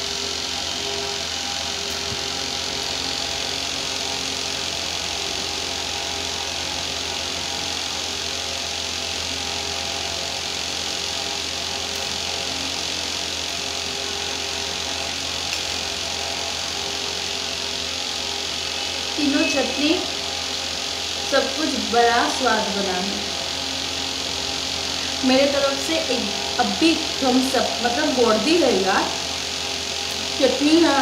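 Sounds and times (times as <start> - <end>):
ventilation fan hum: 0.0 - 31.0.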